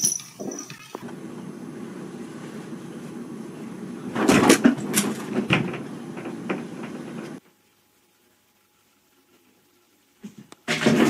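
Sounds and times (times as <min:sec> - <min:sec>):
low room hum: 0:01.0 - 0:10.5.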